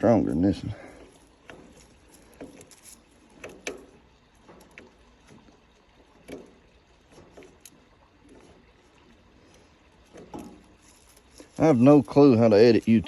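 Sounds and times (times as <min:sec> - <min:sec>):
faint clicks and knocks: 0:00.8 - 0:13.0.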